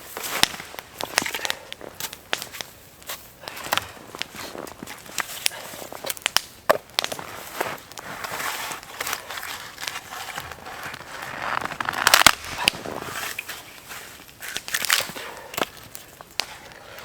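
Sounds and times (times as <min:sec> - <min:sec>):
footsteps crunching frozen snow: 0:00.0 - 0:17.0.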